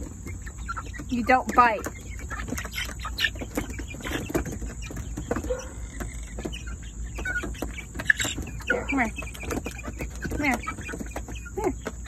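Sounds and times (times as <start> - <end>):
chickens clucking and chirping: 0.0 - 12.0.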